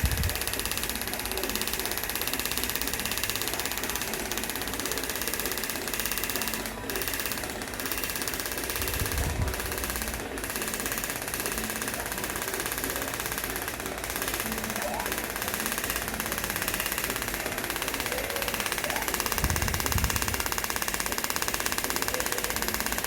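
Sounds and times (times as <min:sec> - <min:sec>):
tattoo machine buzzing: 0:00.0 - 0:23.0.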